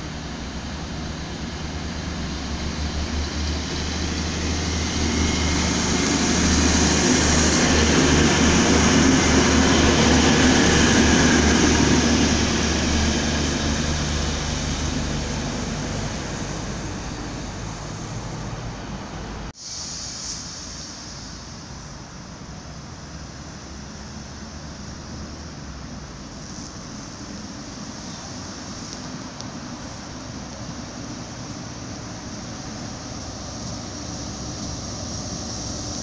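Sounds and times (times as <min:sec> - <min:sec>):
diesel train engine drone: 0:00.0 - 0:36.0
wheel and rail noise: 0:00.0 - 0:36.0.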